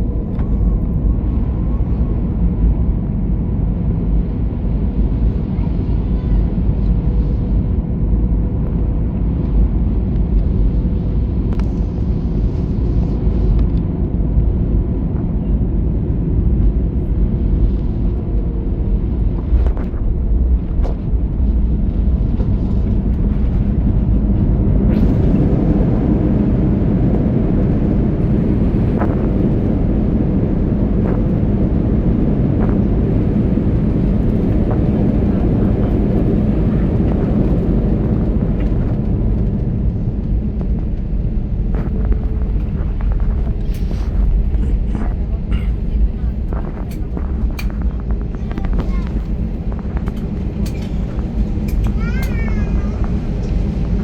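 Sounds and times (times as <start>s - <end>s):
jet engine low rumble: 0.0s - 54.0s.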